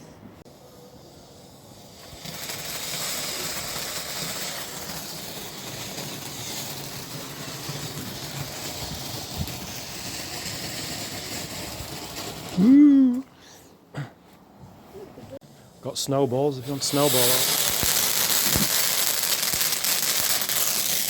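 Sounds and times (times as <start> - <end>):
firework fountain hissing: 0.5 - 13.2, 15.9 - 21.0.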